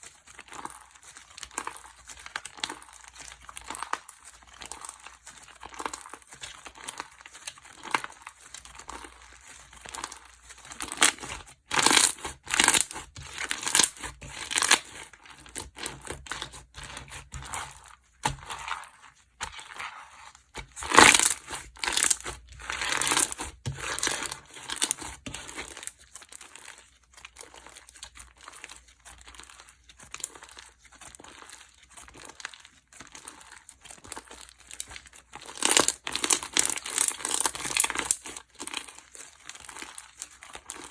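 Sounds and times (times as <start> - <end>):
slime crackling and popping: 0.1 - 40.9.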